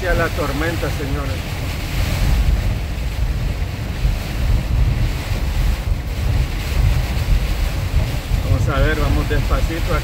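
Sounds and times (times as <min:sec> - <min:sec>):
heavy rain and wind on van: 0:00.0 - 0:10.0
deep low rumble: 0:01.2 - 0:10.0.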